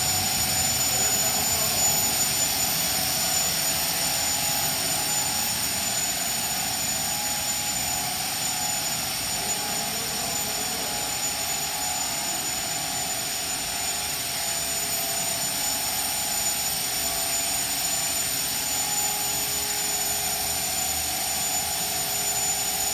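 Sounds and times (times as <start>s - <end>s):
extrusion machine whirring: 0.0s - 22.9s.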